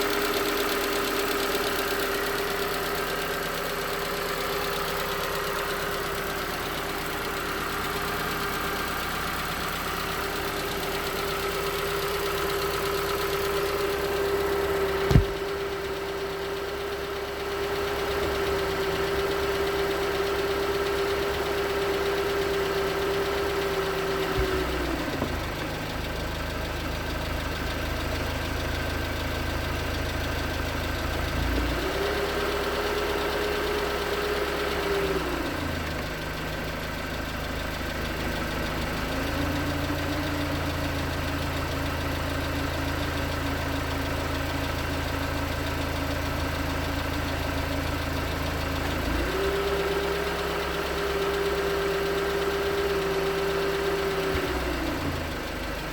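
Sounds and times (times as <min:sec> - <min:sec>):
car engine idling: 0:00.0 - 0:55.9
engine knocking: 0:00.0 - 0:55.9.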